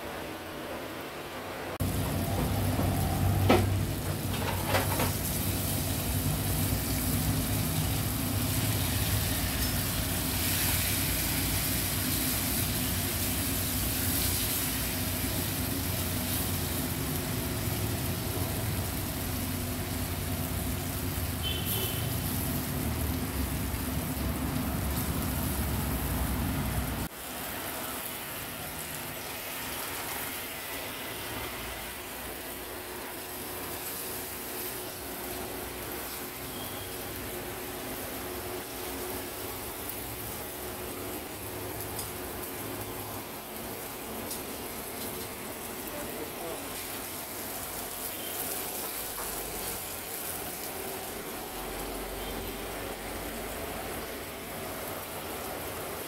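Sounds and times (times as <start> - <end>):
food sizzling in hot fat: 1.8 - 56.0.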